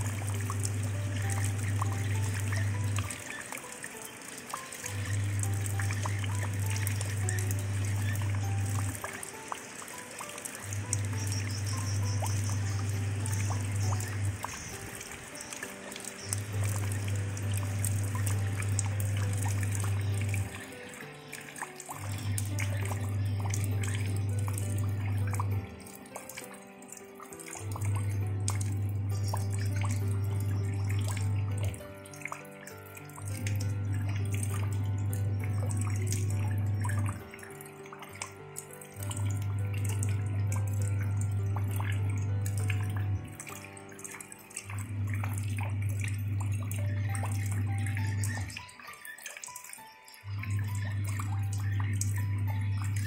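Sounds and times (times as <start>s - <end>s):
rain on puddle: 0.0s - 53.0s
soft background music with bass: 0.0s - 53.0s
water drips: 0.0s - 53.0s
water trickling over pebbles: 0.0s - 53.0s.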